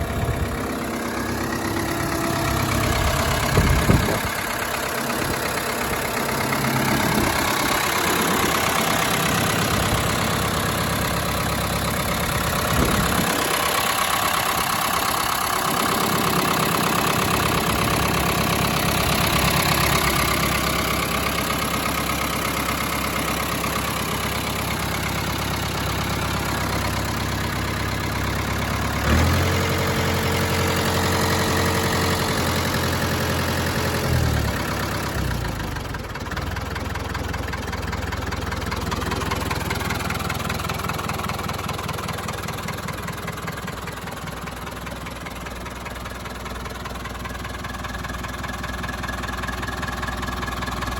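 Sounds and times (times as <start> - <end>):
tractor diesel engine idling: 0.0 - 50.9.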